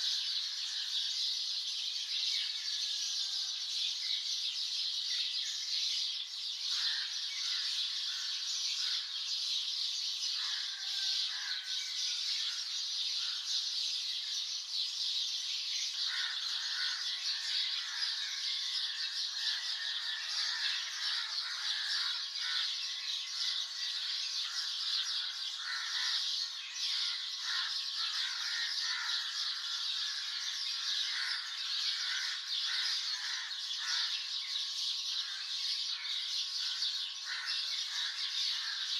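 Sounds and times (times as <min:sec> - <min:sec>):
songbirds chirping in chorus: 0:00.0 - 0:38.9.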